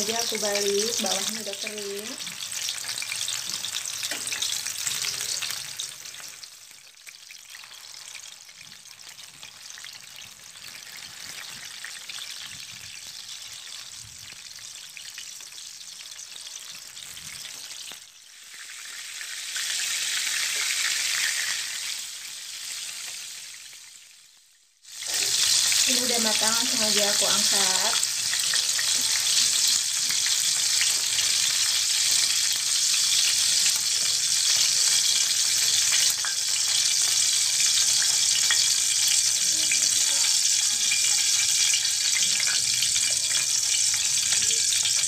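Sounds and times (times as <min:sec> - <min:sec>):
tofu deep-frying in hot oil: 0:00.0 - 0:45.0.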